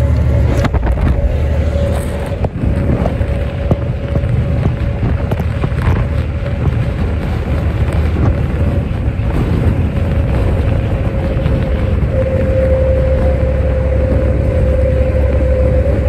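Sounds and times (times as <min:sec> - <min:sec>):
bus engine and road rumble: 0:00.0 - 0:16.0
thin steady whine: 0:00.0 - 0:16.0.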